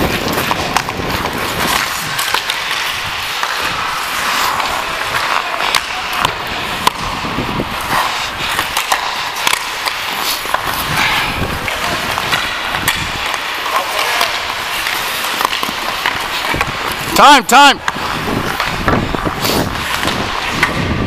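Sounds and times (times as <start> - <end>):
hockey sticks and puck clacking: 0.0 - 21.0
skate blades scraping ice: 0.0 - 21.0.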